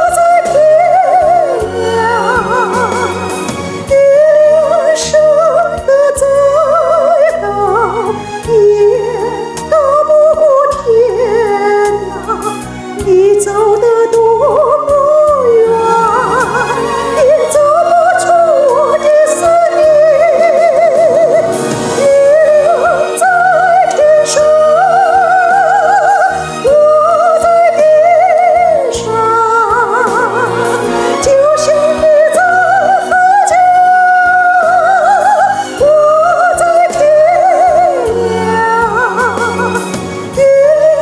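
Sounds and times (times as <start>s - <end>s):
woman singing with vibrato: 0.0s - 41.0s.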